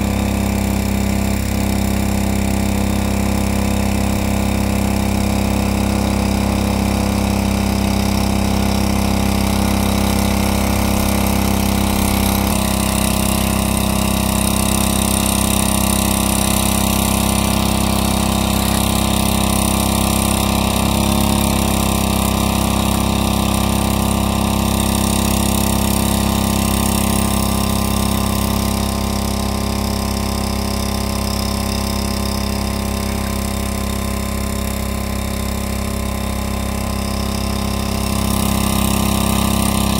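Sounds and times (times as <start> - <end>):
small engine water pump running: 0.0 - 39.9.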